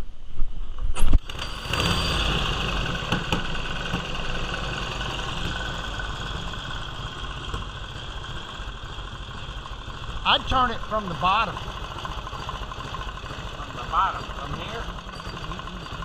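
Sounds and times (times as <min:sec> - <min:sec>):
motorcycle engine starting: 0:00.9 - 0:16.0
motorcycle engine idling: 0:01.2 - 0:16.0.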